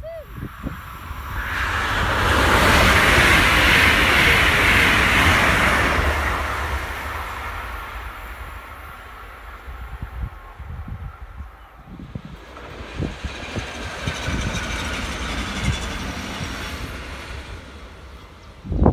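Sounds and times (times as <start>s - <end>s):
train passing at speed: 0.0s - 18.9s.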